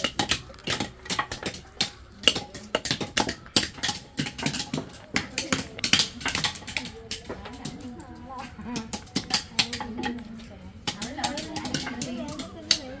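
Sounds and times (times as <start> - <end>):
hammer cracking nuts on stone: 0.0 - 7.8, 8.8 - 13.0.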